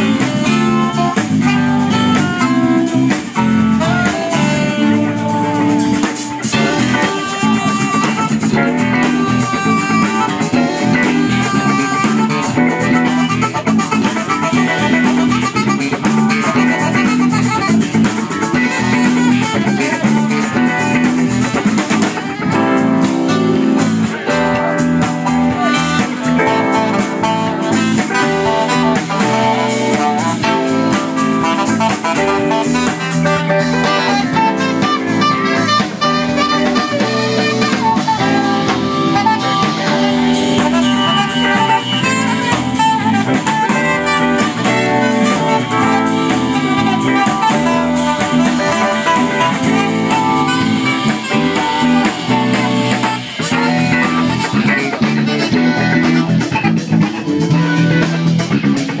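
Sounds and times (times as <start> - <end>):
drum kit beat: 0.0 - 59.0
funk band playing: 0.0 - 59.0
guitar: 0.0 - 59.0.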